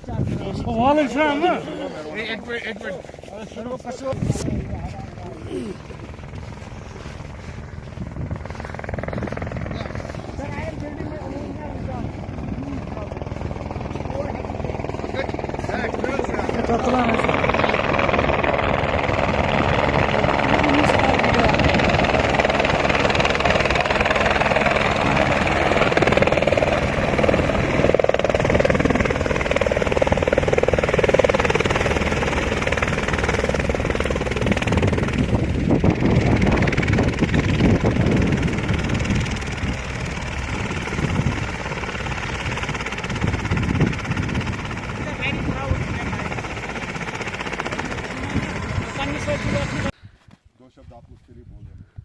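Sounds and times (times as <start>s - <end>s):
helicopter engine and rotor: 0.0s - 50.0s.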